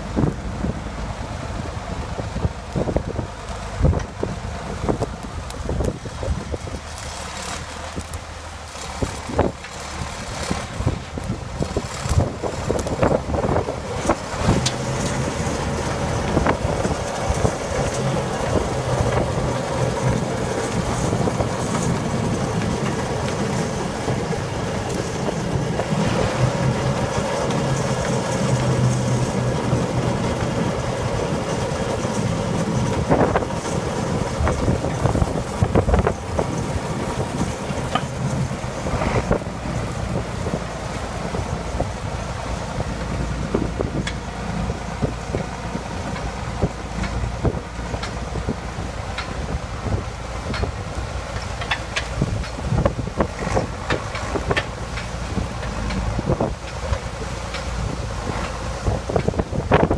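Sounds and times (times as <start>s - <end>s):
diesel engine humming under load: 0.0s - 59.9s.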